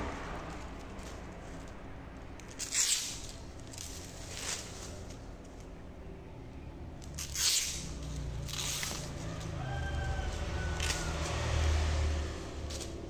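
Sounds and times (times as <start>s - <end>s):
straw scratching and rustling: 0.5s - 5.8s, 7.0s - 13.0s.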